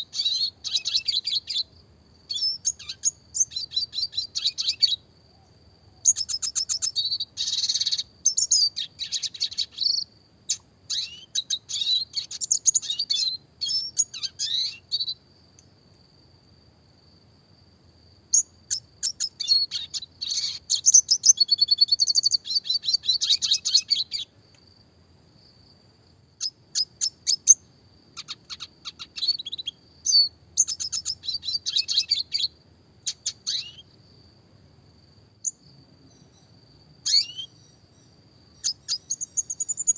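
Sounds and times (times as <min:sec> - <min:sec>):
bird twittering song: 0:00.0 - 0:15.2, 0:18.3 - 0:24.4, 0:26.4 - 0:34.0, 0:35.4 - 0:39.9.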